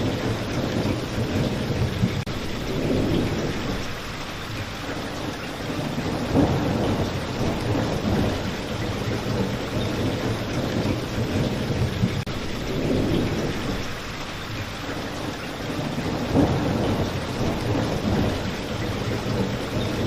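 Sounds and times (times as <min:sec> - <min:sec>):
low thunder rumbling: 0:00.0 - 0:14.4, 0:15.1 - 0:20.0
steady rain falling: 0:00.0 - 0:20.0.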